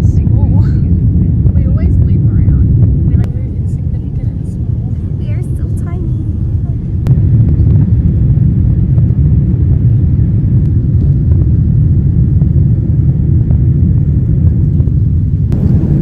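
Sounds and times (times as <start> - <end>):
jet airliner cabin rumble: 0.0 - 16.0.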